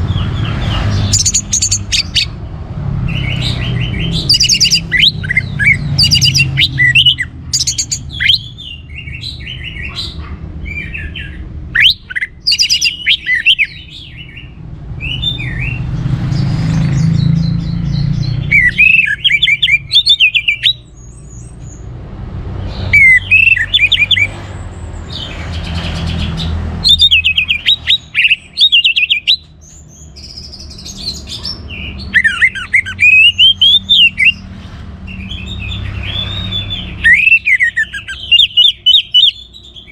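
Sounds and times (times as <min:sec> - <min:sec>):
thrush singing: 0:00.0 - 0:21.0, 0:22.4 - 0:39.9.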